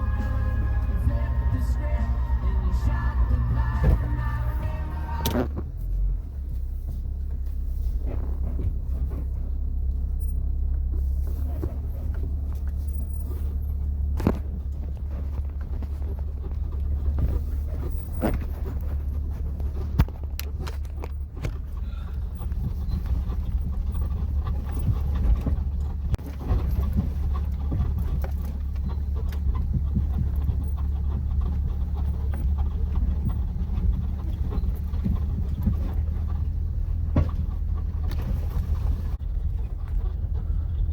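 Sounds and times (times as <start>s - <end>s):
engine and tyres rumbling: 0.0s - 40.9s
knocks and rattles over bumps: 0.0s - 40.9s.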